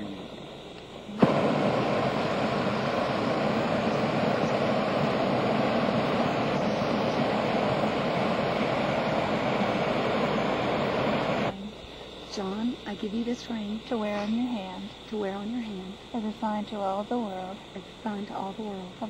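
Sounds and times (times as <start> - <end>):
propane burner blast: 0.0 - 15.4.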